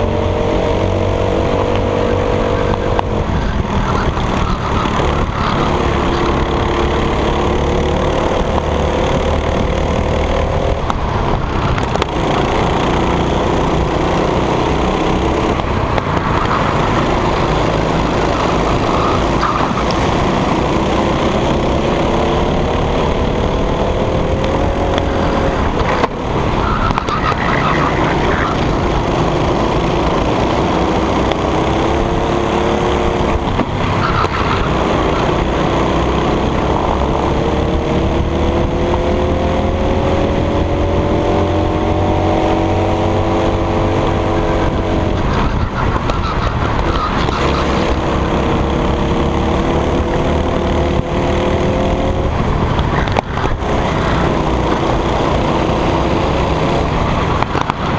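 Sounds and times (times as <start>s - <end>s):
go-kart engine revving: 0.0s - 57.9s
other karts running nearby: 0.0s - 57.9s.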